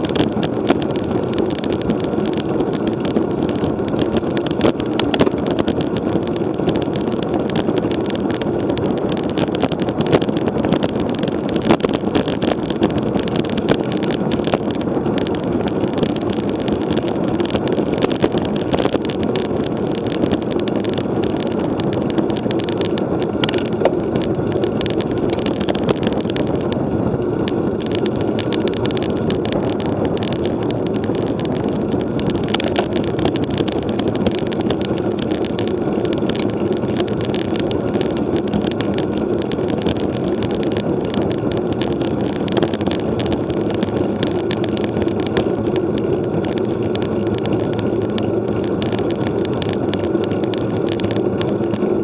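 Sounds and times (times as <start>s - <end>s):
bicycle clicks and rattles: 0.0s - 52.0s
bicycle tyre noise: 0.0s - 52.0s
wind rush: 0.0s - 52.0s.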